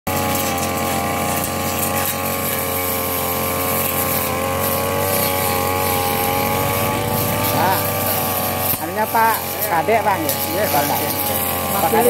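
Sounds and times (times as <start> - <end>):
brush cutter engine running: 0.1 - 12.0
cutting head trimming grass: 0.1 - 12.0.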